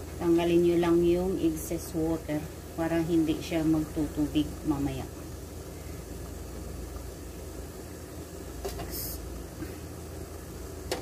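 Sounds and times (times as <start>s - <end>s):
water boiling in rice cooker: 0.0s - 11.0s.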